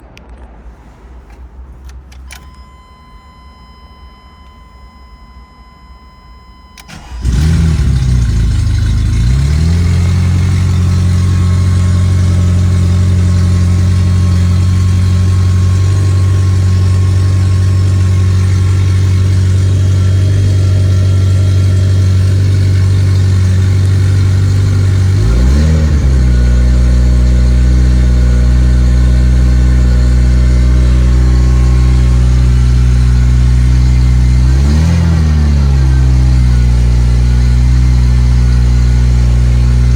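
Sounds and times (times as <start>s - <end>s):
car engine starting and idling: 0.0s - 39.9s.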